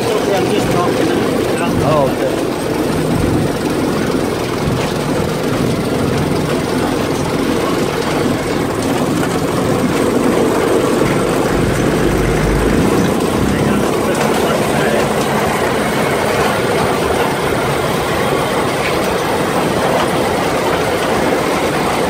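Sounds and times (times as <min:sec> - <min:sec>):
buggy engine running: 0:00.0 - 0:22.0.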